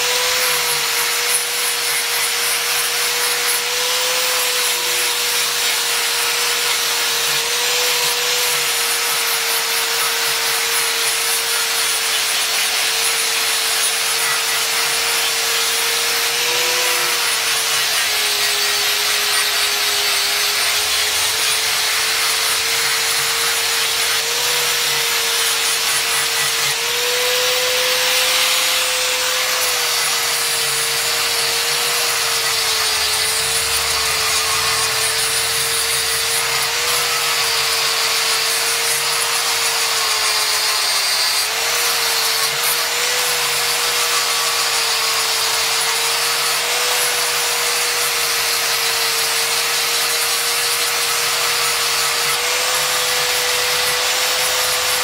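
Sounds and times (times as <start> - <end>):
angle grinder motor whine: 0.0 - 55.0
sanding disc rasping on wood: 0.0 - 55.0.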